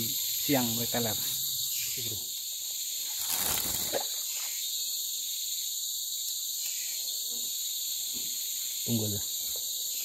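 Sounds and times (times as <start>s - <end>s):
forest insects chorus: 0.0s - 10.0s.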